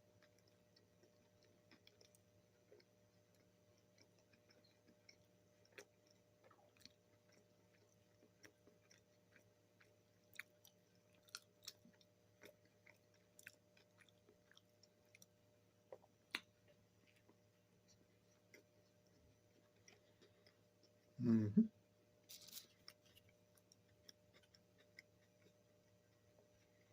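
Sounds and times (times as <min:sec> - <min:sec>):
chewing food: 0:00.0 - 0:21.2, 0:22.2 - 0:26.9.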